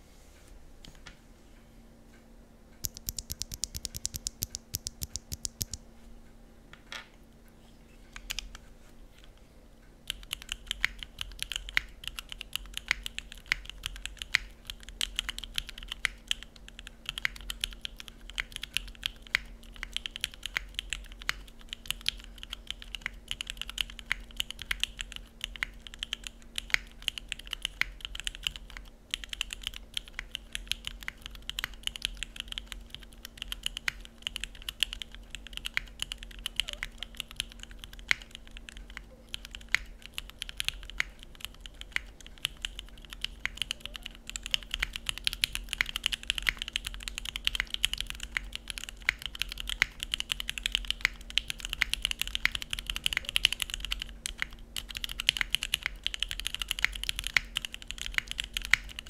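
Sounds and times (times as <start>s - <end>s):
fast typing on mechanical keyboard: 2.8s - 5.8s, 10.1s - 59.0s.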